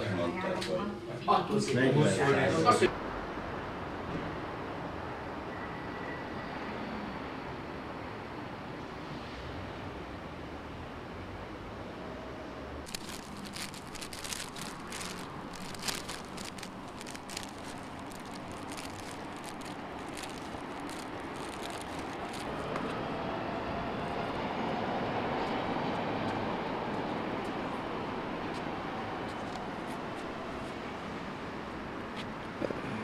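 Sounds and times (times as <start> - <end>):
street traffic hiss: 2.8 - 33.0.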